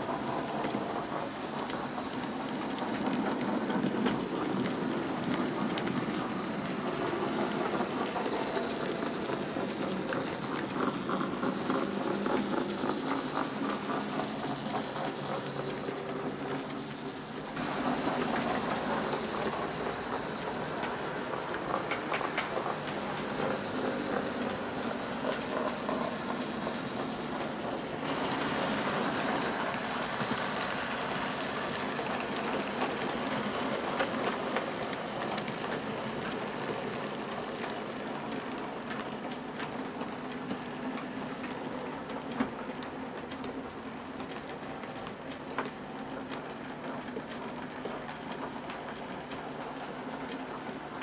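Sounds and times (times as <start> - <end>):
model train motors whirring: 0.0 - 51.0
wheels clicking over rail joints: 0.0 - 51.0.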